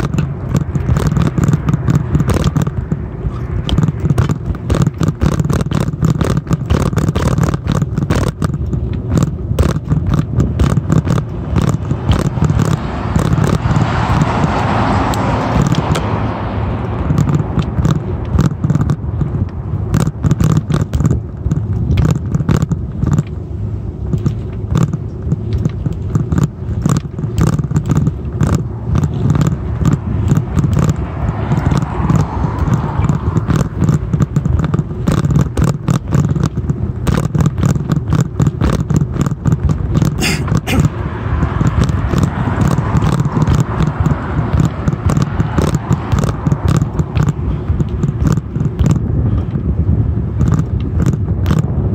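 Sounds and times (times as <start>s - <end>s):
bicycle rolling on concrete: 0.0s - 51.9s
bike rattling and knocking: 0.0s - 51.9s.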